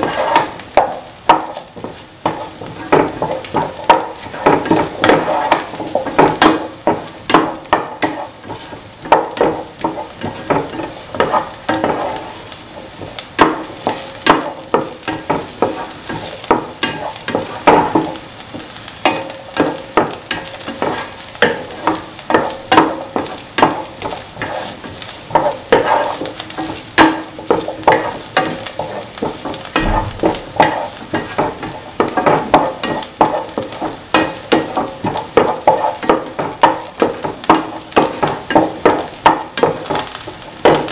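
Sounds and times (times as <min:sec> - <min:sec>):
onions sizzling in oil: 0:00.0 - 0:40.9
spatula scraping a frying pan: 0:00.0 - 0:40.9.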